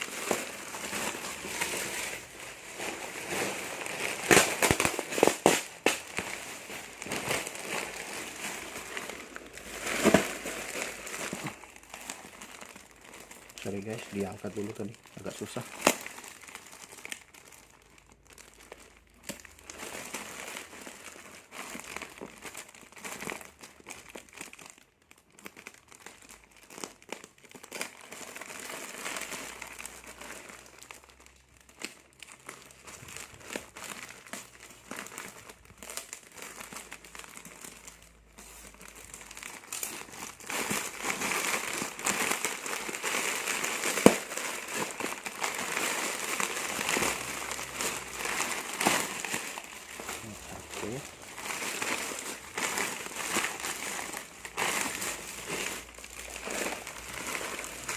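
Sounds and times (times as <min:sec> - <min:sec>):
plastic packaging crinkling: 0:00.0 - 0:57.9.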